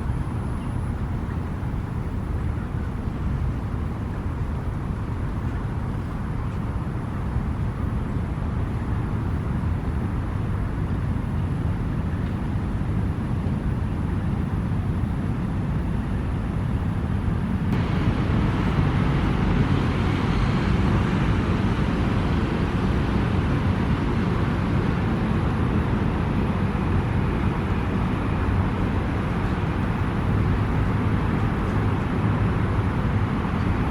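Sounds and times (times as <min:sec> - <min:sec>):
city traffic rumble: 0:00.0 - 0:33.9.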